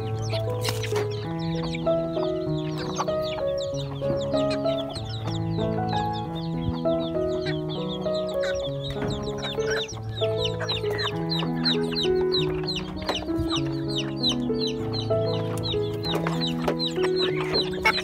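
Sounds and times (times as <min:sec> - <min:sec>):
chicks peeping: 0:00.0 - 0:18.0
hens clucking: 0:00.0 - 0:18.0
slow background music: 0:00.0 - 0:18.0.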